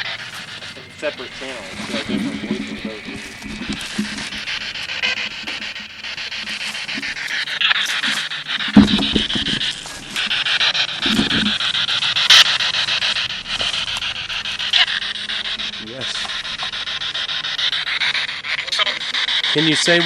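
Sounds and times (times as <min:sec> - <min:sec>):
radio scanner static: 0:00.0 - 0:17.7
low radio fragments: 0:00.0 - 0:18.8.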